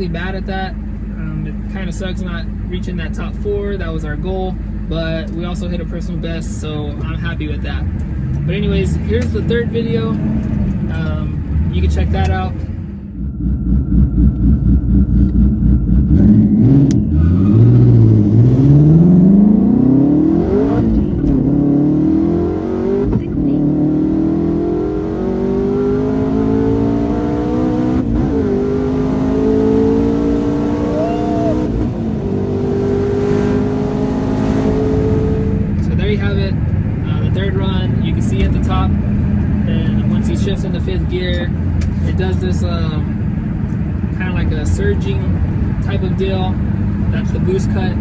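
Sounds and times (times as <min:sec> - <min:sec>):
car engine revving through gears: 0:06.9 - 0:48.0.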